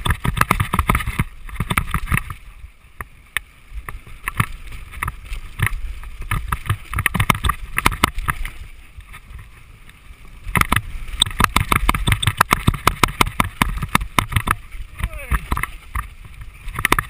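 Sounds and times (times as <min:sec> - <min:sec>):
mountain bike rattling: 0:00.0 - 0:17.0
wind rumbling on microphone: 0:00.0 - 0:17.0.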